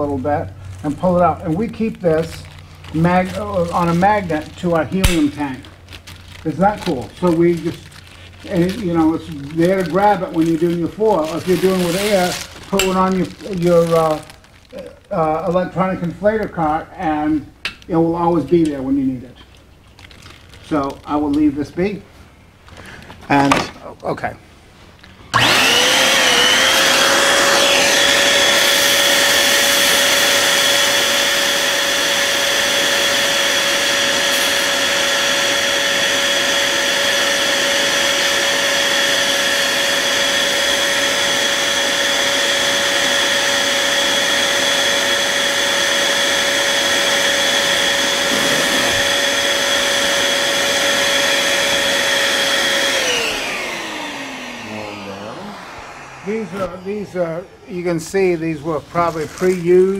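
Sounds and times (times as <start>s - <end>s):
electric balloon inflator motor whine: 0.9s - 15.9s, 25.1s - 59.9s.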